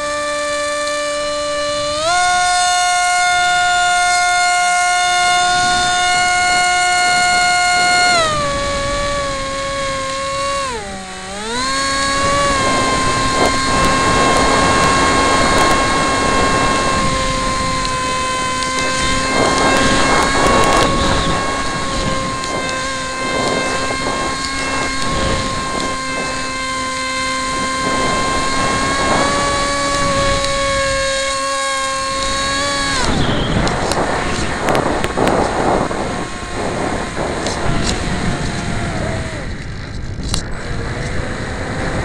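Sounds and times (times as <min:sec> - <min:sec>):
electric motor and propeller whine: 0:00.0 - 0:42.0
wind rushing past microphone: 0:01.2 - 0:42.0.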